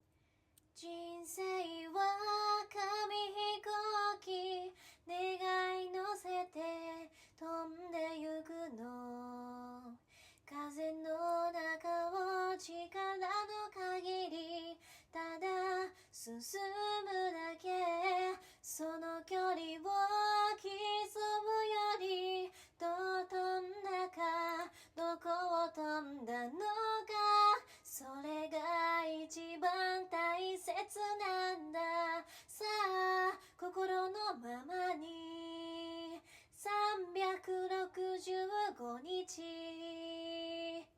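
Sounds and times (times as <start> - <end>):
woman singing a cappella: 0.7 - 40.9.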